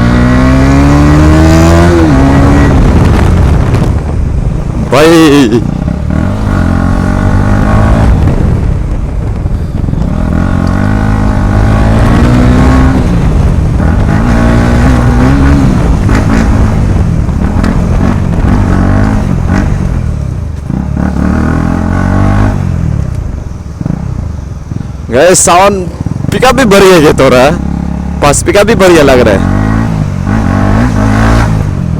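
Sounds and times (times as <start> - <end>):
loud motorcycle engine accelerating: 0.0 - 23.1, 23.7 - 31.9.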